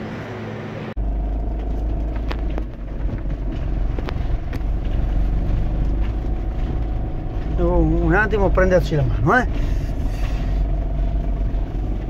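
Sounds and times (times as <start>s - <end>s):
van engine low rumble: 0.0s - 12.0s.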